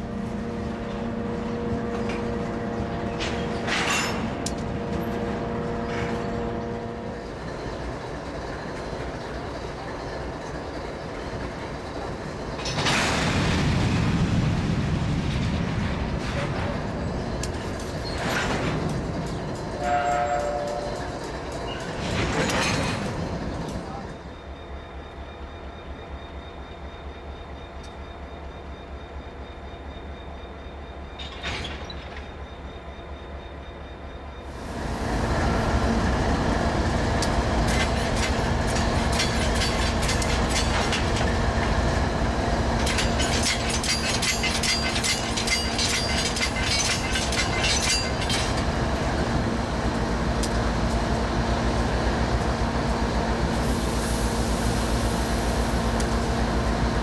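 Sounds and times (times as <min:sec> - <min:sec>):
diesel locomotives idling: 0:00.0 - 0:31.4, 0:32.3 - 0:57.0.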